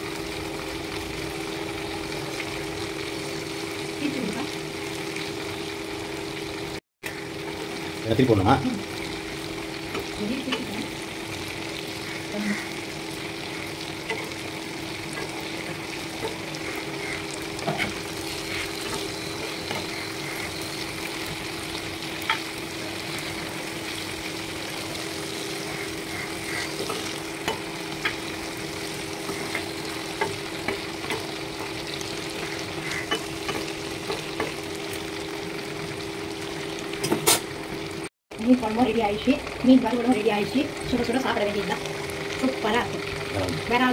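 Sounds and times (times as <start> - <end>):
fish sizzling in oil: 0.0 - 43.9.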